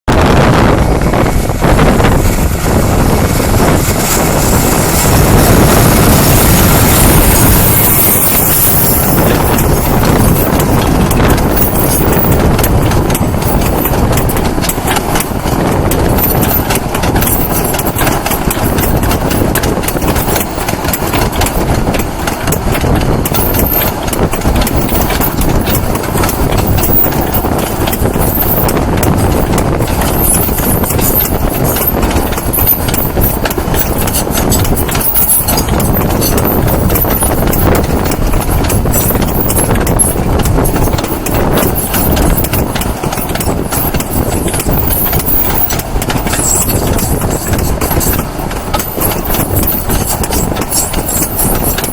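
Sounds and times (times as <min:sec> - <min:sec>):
low train rumble: 0:00.1 - 0:51.9
train wheels clattering over rail joints: 0:00.2 - 0:51.9.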